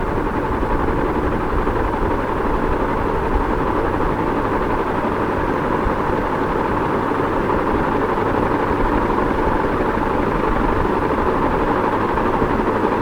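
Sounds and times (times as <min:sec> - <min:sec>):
ceiling fan whooshing hum: 0:00.0 - 0:13.0.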